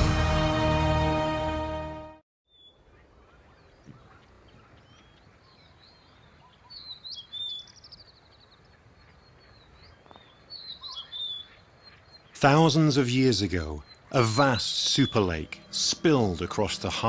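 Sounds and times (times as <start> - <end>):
faint outdoor background: 0.0 - 17.0
birds chirping: 2.5 - 17.0.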